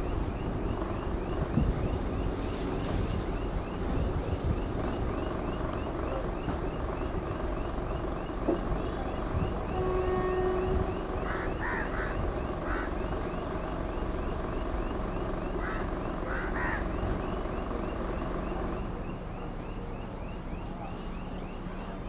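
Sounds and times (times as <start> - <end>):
birds chirping: 0.0 - 22.0
train coaches rumbling on track: 0.0 - 22.0.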